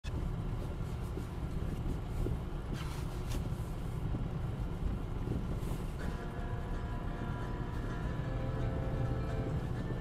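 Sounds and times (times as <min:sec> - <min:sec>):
car engine rumble and road noise: 0:00.0 - 0:10.0.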